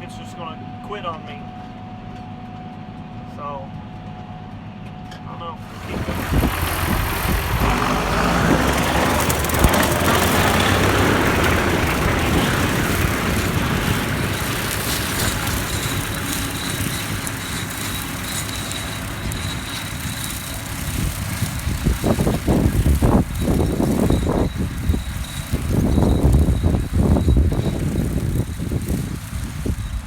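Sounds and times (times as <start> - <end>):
tractor diesel engine under load: 5.5 - 30.0.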